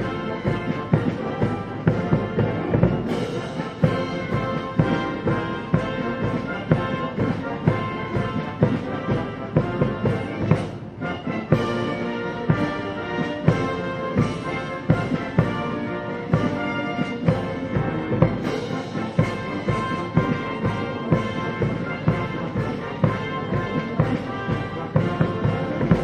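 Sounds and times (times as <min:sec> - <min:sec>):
drums beating: 0:00.0 - 0:26.0
military band brass: 0:00.0 - 0:26.0.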